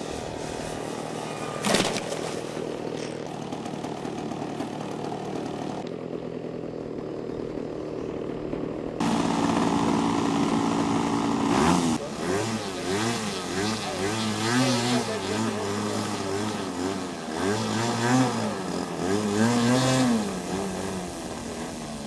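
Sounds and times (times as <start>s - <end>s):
model airplane engine idling: 0.0s - 22.0s.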